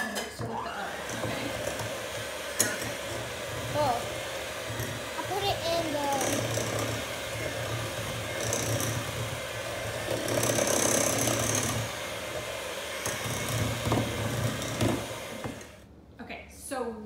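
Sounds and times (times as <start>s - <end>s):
electric hand mixer running: 0.5s - 15.9s.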